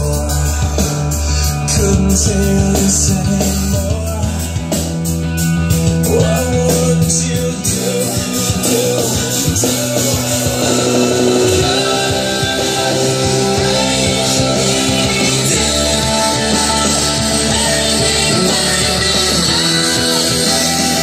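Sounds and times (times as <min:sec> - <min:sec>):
loud rock song through speakers: 0:00.0 - 0:21.0.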